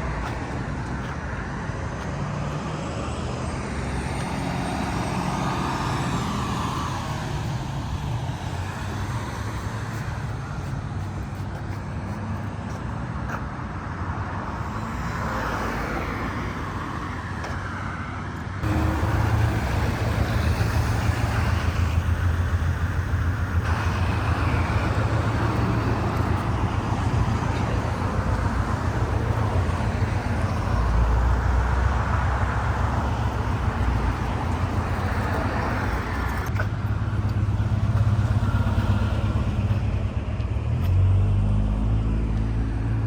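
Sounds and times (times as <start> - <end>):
cars driving past: 0.0 - 43.0.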